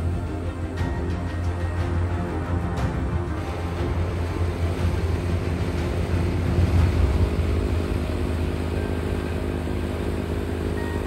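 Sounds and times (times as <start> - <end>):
snowblower churning snow: 0.0 - 11.0
tractor diesel engine under load: 0.0 - 11.0.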